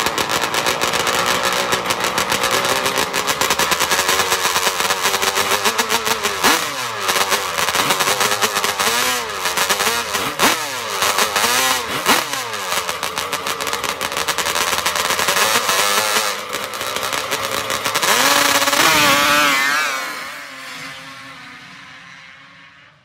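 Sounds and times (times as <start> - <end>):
quad engine revving and crackling: 0.0 - 23.0.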